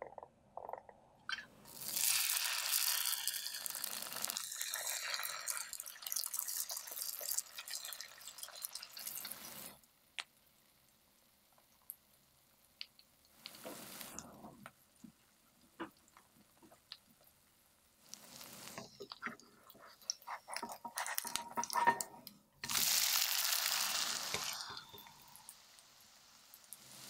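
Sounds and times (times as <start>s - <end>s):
batter sizzling in hot oil: 1.7s - 14.2s, 16.0s - 27.0s.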